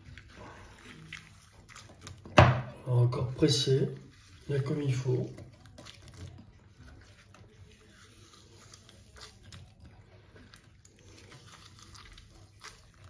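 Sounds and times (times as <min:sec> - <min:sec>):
wet squelching of fruit: 0:00.0 - 0:13.0.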